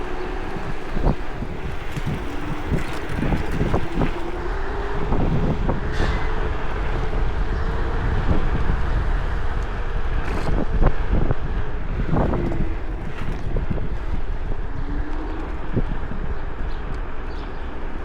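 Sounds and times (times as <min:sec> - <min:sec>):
electric motor whine: 0:00.0 - 0:18.0
wind buffeting microphone: 0:00.0 - 0:18.0.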